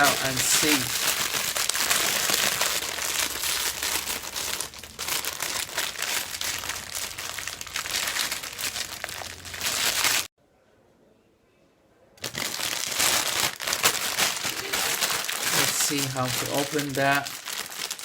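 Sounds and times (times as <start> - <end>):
plastic packaging crinkling: 0.0 - 10.3, 12.2 - 18.0.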